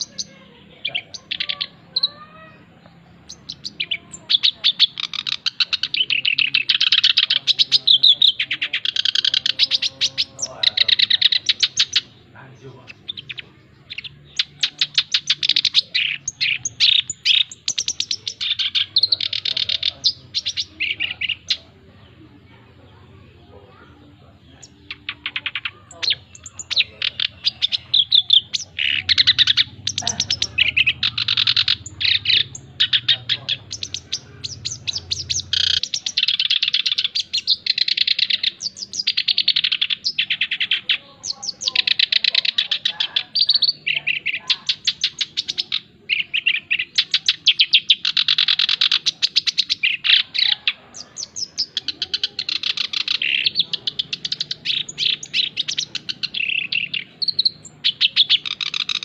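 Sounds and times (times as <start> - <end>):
reed warbler singing: 0.0 - 59.0.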